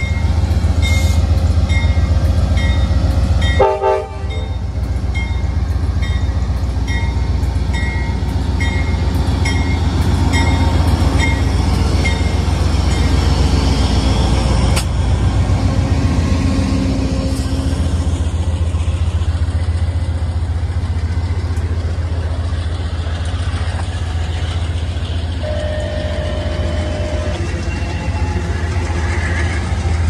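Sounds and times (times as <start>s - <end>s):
diesel locomotive drone: 0.0s - 30.0s
train cars rumbling on rails: 0.0s - 30.0s.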